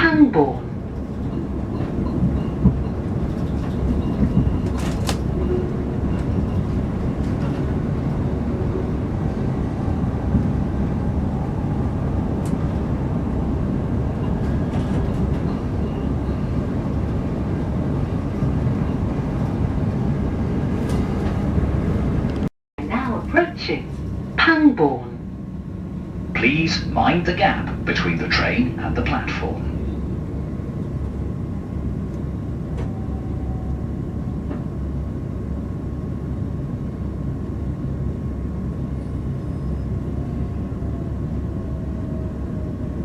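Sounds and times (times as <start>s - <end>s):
train wheels rumbling on rails: 0.5s - 24.4s, 25.2s - 43.0s.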